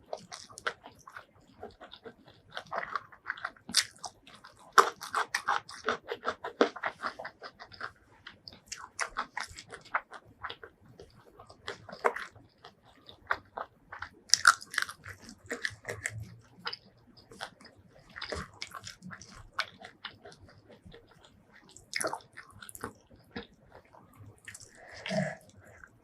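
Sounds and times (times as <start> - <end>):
chewing crisp food crunches: 0.0 - 26.0.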